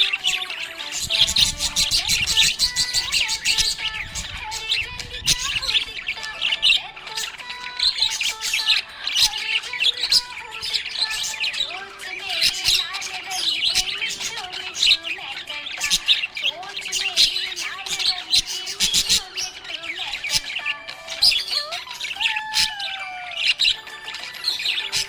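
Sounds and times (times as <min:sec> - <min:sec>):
budgerigars chattering: 0:00.0 - 0:25.0.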